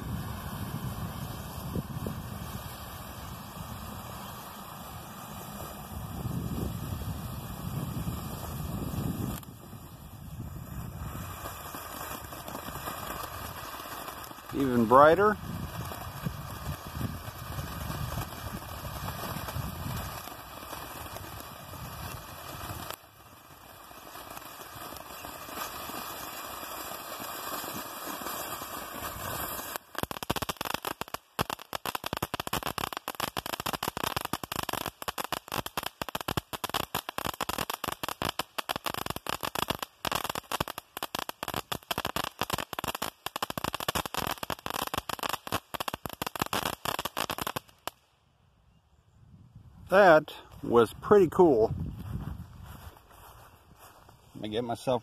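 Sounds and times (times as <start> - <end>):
fireworks sparks hissing: 0.0 - 48.0
fireworks crackling pops: 0.0 - 48.2.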